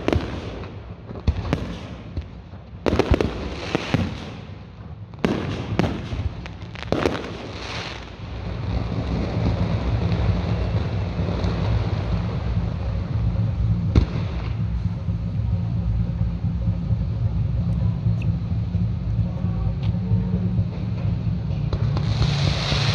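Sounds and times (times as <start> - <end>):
fireworks bangs: 0.0 - 16.2, 20.5 - 22.9
low rumble: 0.0 - 22.9.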